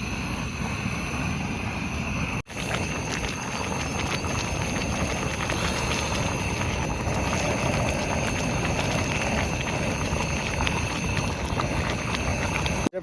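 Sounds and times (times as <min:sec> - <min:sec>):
pot hissing on heat: 0:00.0 - 0:13.0
faint crackles: 0:02.5 - 0:13.0.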